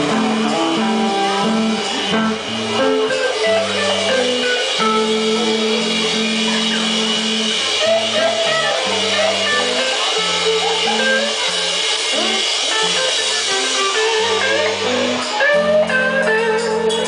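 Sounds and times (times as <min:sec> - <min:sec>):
drums: 0:00.0 - 0:17.0
electric guitar: 0:00.0 - 0:17.0
live rock band playing: 0:00.0 - 0:17.0.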